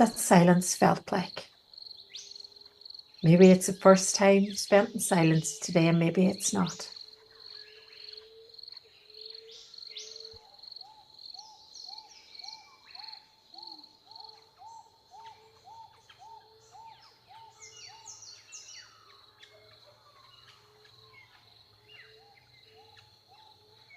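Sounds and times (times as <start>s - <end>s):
birdsong chirps: 0.0s - 23.9s.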